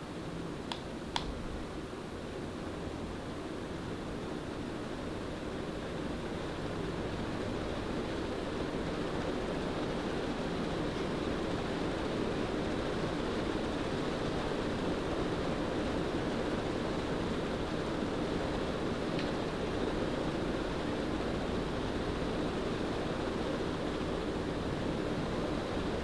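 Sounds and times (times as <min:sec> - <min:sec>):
ceiling fan running: 0:00.0 - 0:26.0.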